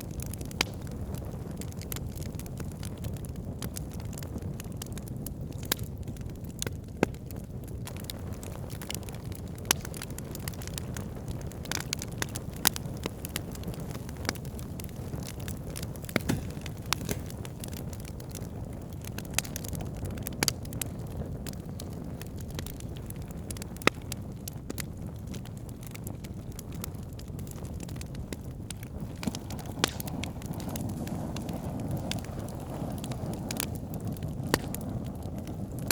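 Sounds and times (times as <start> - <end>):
burning wood crackling and popping: 0.0 - 35.9
low rumble of flames: 0.0 - 35.9.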